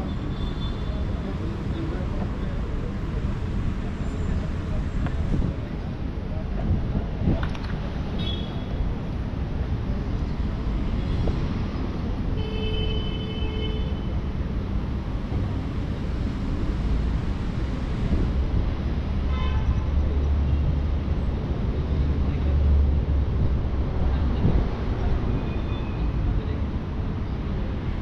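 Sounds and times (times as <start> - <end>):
urban traffic rumble: 0.0 - 28.0.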